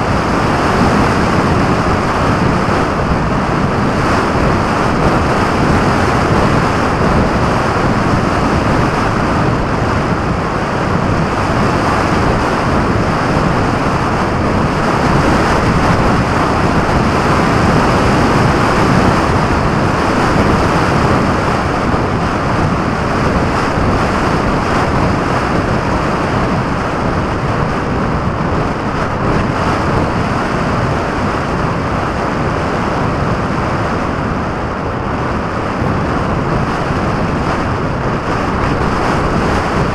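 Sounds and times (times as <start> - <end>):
wind rushing past camera: 0.0 - 39.9.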